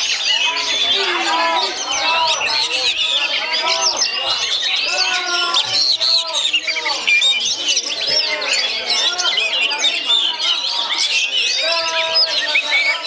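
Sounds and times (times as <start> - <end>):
birds singing rapid whistles: 0.0 - 13.0.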